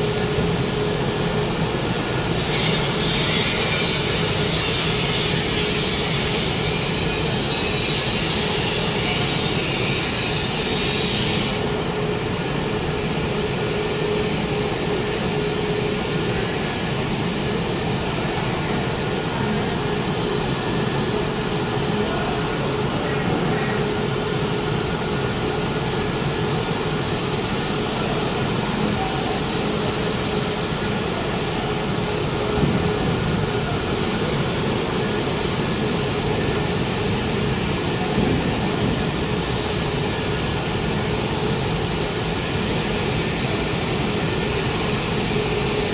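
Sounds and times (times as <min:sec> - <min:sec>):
production line machinery running: 0:00.0 - 0:45.9.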